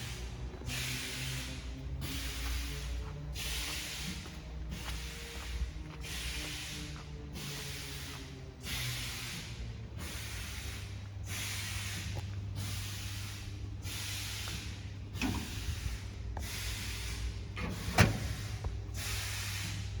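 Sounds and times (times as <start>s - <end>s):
low machine hum: 0.0s - 20.0s
short gas hisses: 0.0s - 20.0s.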